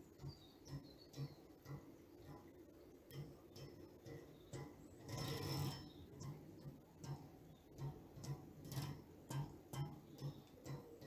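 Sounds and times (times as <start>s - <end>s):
rhythmic mechanical clicking: 0.0s - 11.0s.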